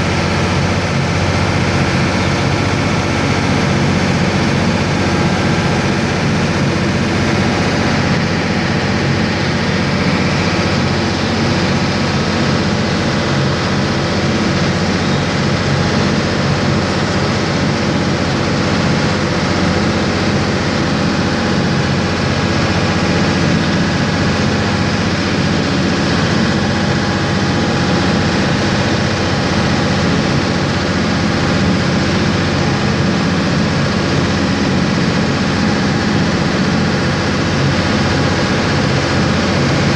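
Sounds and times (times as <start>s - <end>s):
boat diesel engines humming: 0.0s - 39.9s
churning wake rushing: 0.0s - 39.9s.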